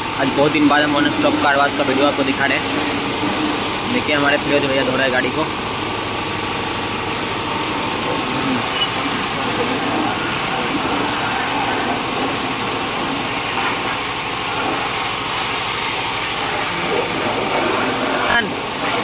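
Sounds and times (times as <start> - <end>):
high-pressure water jet hissing: 0.0 - 19.0
pressure washer pump motor: 0.0 - 19.0.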